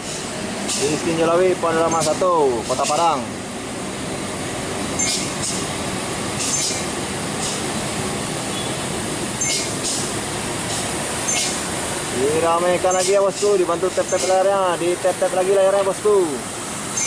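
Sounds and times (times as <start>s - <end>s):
diesel truck engine drone: 0.0s - 17.0s
motorcycle engines under load: 0.0s - 17.0s.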